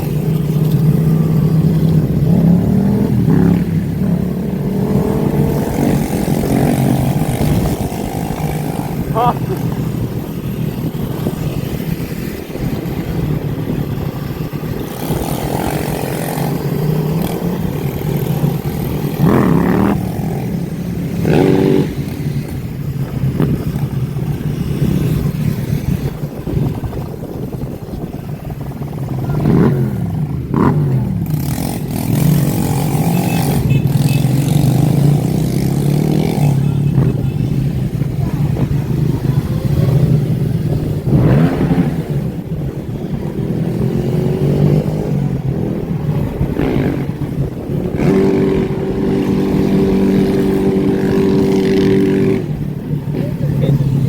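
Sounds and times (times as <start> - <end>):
dirt bikes revving and passing: 0.0 - 54.0.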